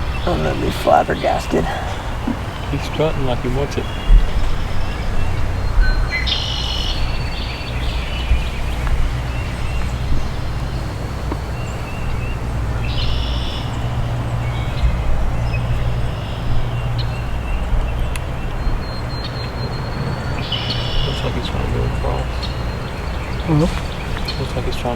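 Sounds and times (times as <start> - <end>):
songbird singing: 0.0 - 24.9
wind buffeting microphone: 0.0 - 24.9.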